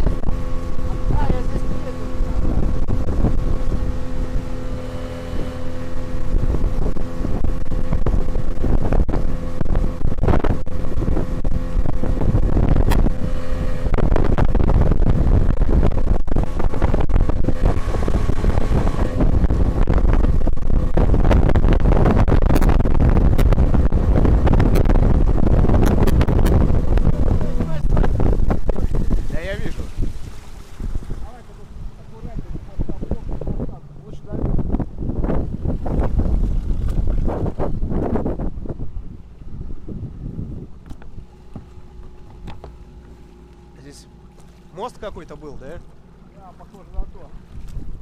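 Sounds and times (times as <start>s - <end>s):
outboard motor running: 0.0s - 48.0s
rush of wind and water: 0.0s - 48.0s
wind on microphone: 0.0s - 48.0s.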